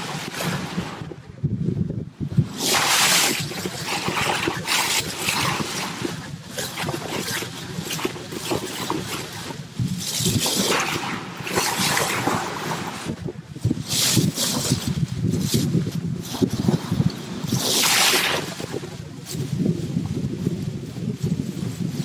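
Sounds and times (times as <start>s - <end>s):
water rushing along bow: 0.0s - 22.0s
wind on microphone: 0.0s - 22.0s.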